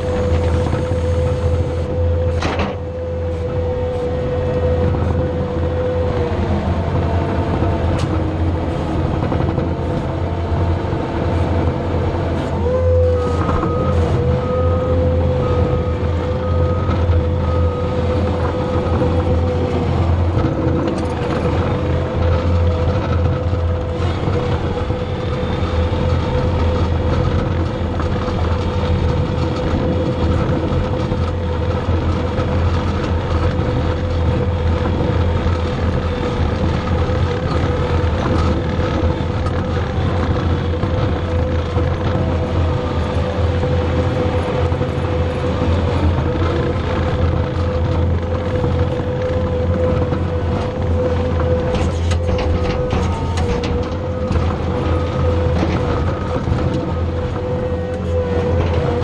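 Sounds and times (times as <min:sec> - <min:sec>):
diesel engine running under load: 0:00.0 - 0:59.0
steady whine: 0:00.0 - 0:59.0.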